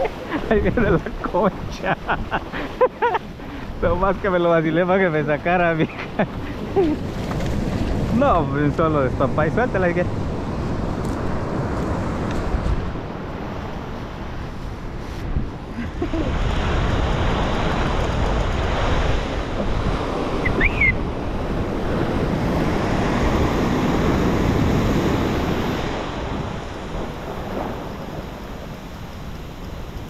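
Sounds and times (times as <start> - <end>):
surf breaking on beach: 0.0 - 30.0
wind buffeting microphone: 0.0 - 30.0.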